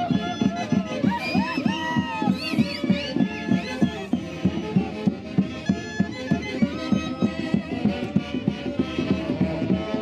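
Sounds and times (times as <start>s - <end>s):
folk orchestra playing: 0.0s - 10.0s.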